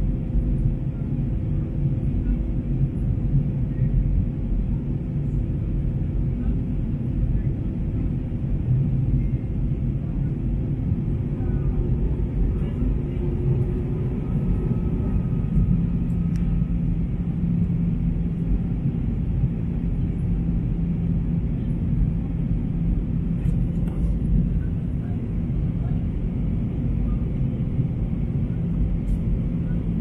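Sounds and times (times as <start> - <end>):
airliner cabin engine rumble: 0.0 - 30.0
steady low hum: 0.0 - 30.0.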